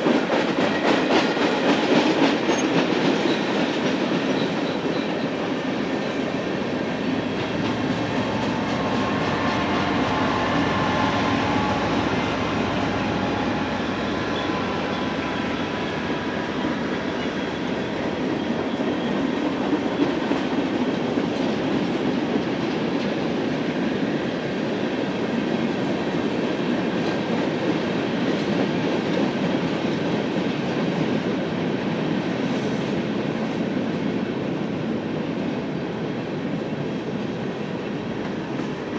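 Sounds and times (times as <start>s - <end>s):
freight train rolling past: 0.0s - 38.9s
train wheel squeal: 0.0s - 38.9s.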